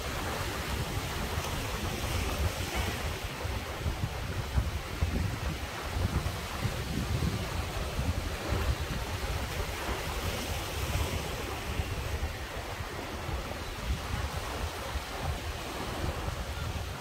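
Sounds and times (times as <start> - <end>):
surf breaking over rocks: 0.0 - 17.0
wind buffeting microphone: 0.0 - 17.0.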